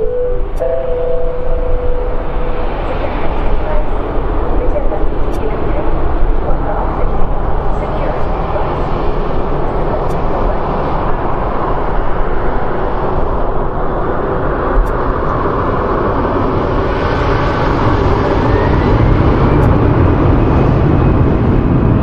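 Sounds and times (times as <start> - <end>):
faint rising whine: 0.0 - 19.8
jet engines rushing: 0.0 - 22.0.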